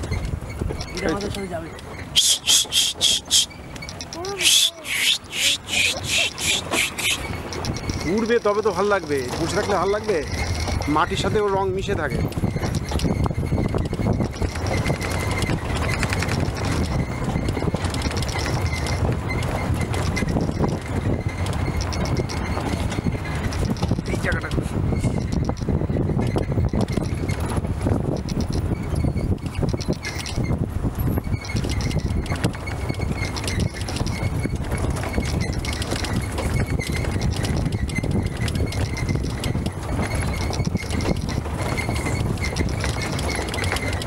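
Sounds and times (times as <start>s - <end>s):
vehicle rattling and knocking: 0.0s - 4.4s, 6.0s - 44.0s
engine and road rumble: 0.0s - 44.0s.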